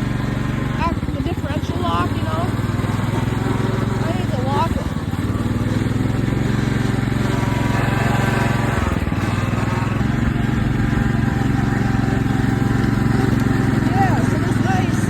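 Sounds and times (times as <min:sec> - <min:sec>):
riding lawn mower engine: 0:00.0 - 0:15.0.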